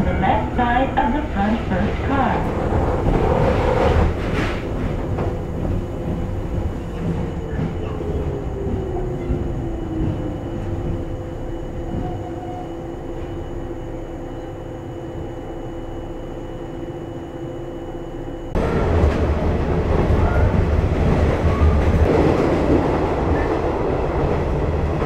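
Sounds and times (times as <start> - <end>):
wheels rumbling on rail: 0.0 - 15.4, 18.5 - 25.0
train motor and gear whine: 0.0 - 25.0.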